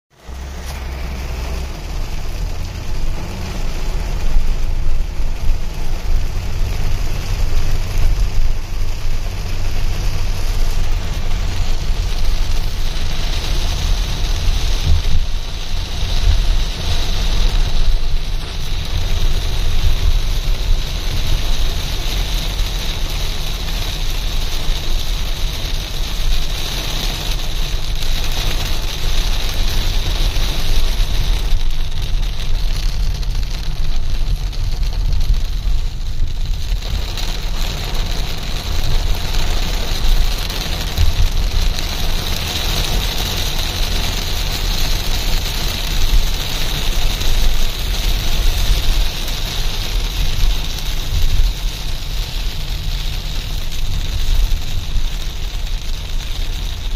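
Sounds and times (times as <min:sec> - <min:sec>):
car driving rumble: 0:00.1 - 0:56.9
heavy rain hiss: 0:00.2 - 0:56.9.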